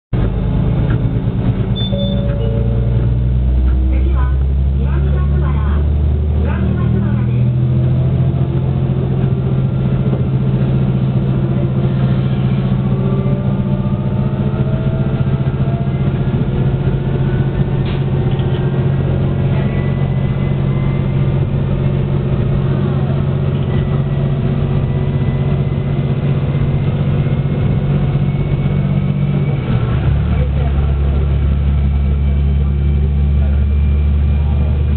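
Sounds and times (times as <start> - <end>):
diesel railcar engine running: 0.1 - 34.9.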